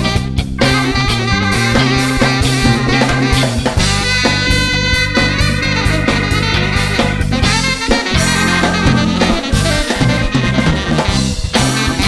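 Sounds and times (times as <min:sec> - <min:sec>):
drum kit groove: 0:00.0 - 0:12.0
tenor saxophone: 0:00.0 - 0:12.0.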